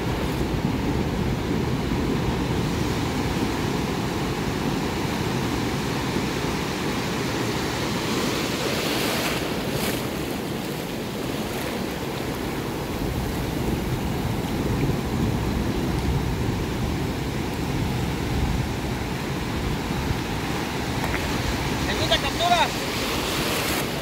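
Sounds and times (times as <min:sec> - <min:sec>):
ocean surf breaking: 0:00.0 - 0:24.0
wind rumbling on microphone: 0:00.0 - 0:24.0.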